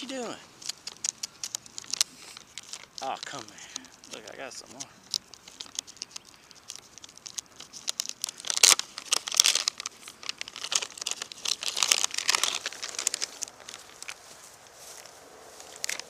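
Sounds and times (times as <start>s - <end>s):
plastic pouch crinkling: 0.0s - 14.4s, 15.0s - 16.0s.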